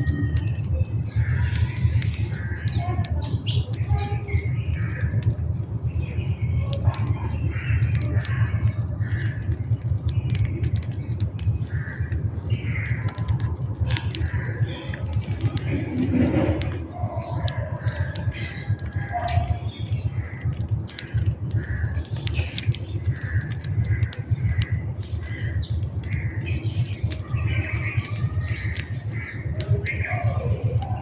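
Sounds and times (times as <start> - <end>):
birds chirping and squawking: 0.0 - 31.0
steady low rumble: 0.0 - 31.0.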